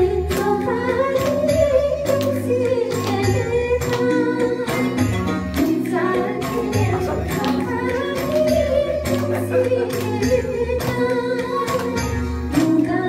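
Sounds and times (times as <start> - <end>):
backing music with percussive beat: 0.0 - 13.0
women singing into microphones: 0.0 - 13.0.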